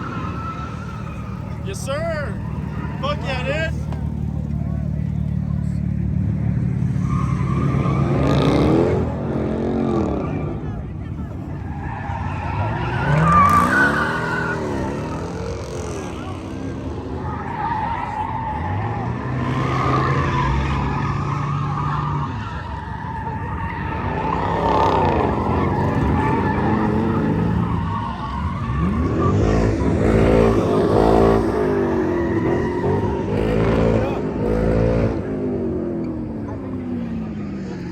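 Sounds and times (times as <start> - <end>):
car engine revving: 0.0 - 37.9
tires screeching: 0.0 - 37.9.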